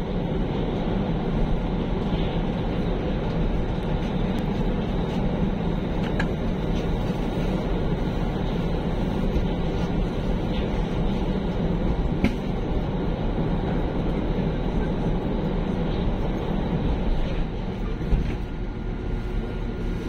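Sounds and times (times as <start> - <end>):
low rumble of train wheels: 0.0 - 20.0.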